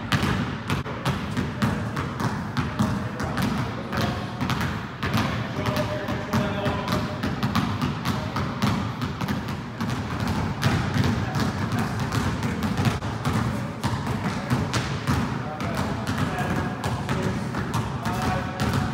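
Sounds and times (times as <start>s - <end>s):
basketball bouncing on hard court: 0.0s - 18.9s.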